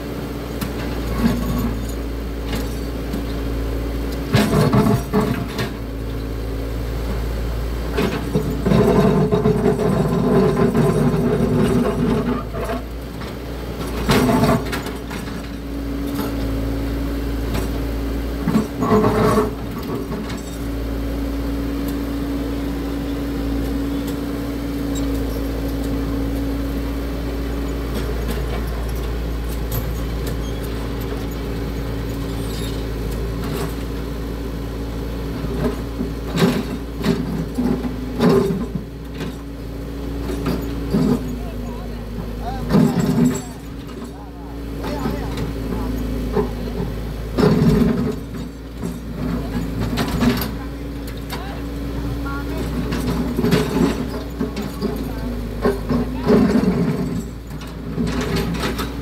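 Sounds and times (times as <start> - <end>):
excavator engine whining: 0.0 - 59.0.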